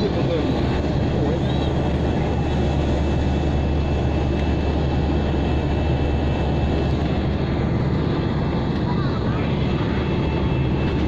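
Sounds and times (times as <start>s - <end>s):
engine and airflow rumble: 0.0s - 11.0s.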